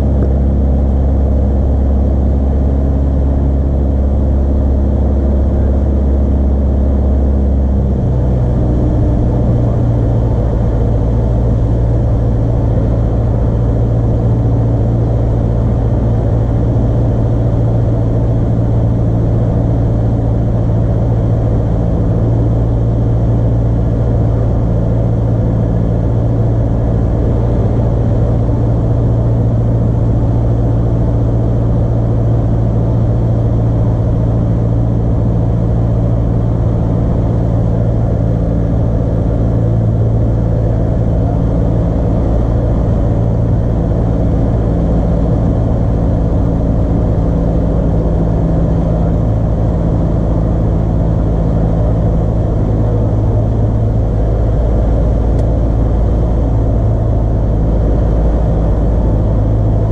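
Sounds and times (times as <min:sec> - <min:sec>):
airplane engine droning: 0:00.0 - 0:59.9.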